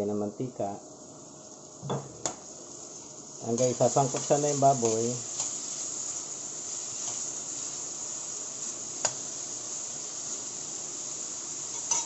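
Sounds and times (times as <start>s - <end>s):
meat sizzling in hot oil: 0.9s - 12.0s.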